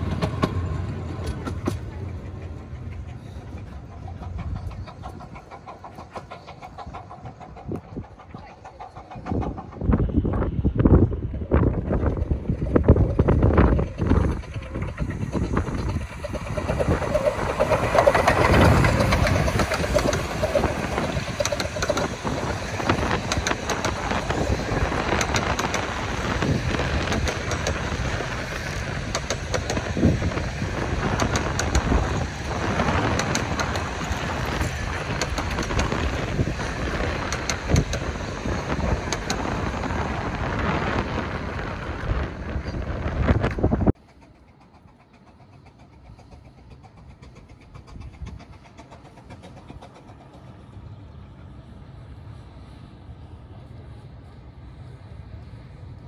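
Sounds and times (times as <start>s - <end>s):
wheels clicking over rail joints: 0.0s - 51.4s
miniature steam train running past: 0.0s - 56.0s.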